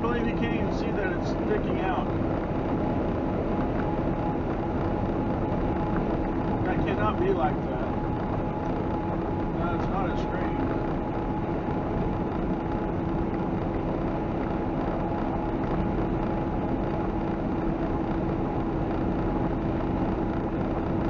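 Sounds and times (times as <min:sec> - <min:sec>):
constant low hum: 0:00.0 - 0:21.0
road noise: 0:00.0 - 0:21.0
truck engine drone: 0:00.0 - 0:21.0.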